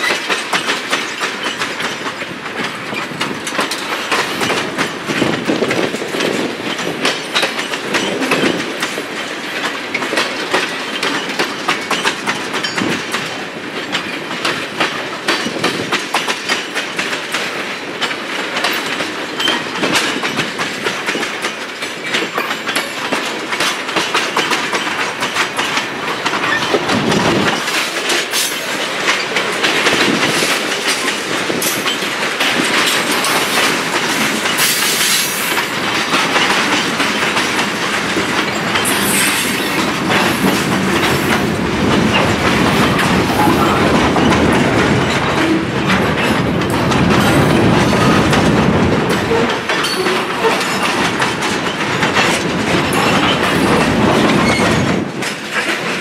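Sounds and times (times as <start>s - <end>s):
freight train rolling past: 0.0s - 56.0s
wheels clicking over rail joints: 0.0s - 56.0s.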